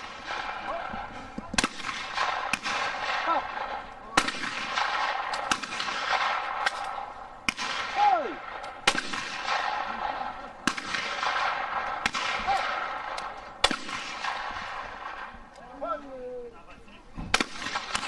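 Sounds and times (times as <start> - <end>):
shotgun shots: 0.0 - 15.4, 17.3 - 18.0.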